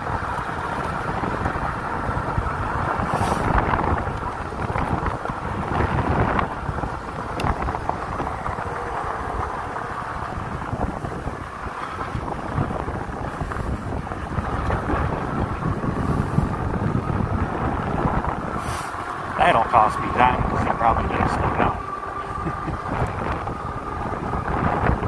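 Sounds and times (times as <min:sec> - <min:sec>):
tyres rumbling on dirt: 0:00.0 - 0:25.0
wind buffeting microphone: 0:00.0 - 0:25.0.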